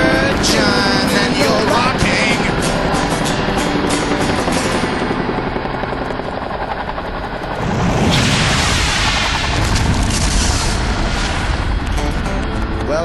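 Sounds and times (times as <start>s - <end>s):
helicopter rotors thumping loudly: 0.0s - 13.0s.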